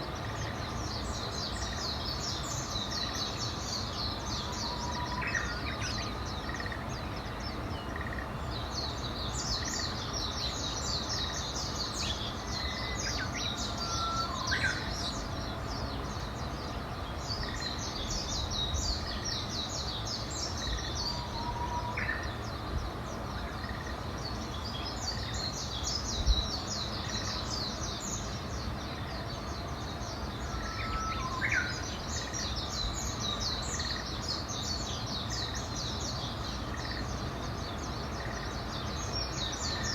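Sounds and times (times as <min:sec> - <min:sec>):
bird singing high-pitched songs: 0:00.0 - 0:39.9
outdoor background hiss: 0:00.0 - 0:39.9.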